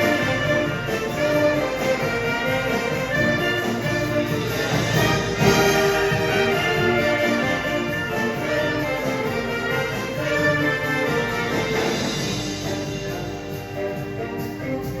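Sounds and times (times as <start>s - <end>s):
brass chords: 0.0s - 15.0s
steady drum beat: 0.0s - 15.0s.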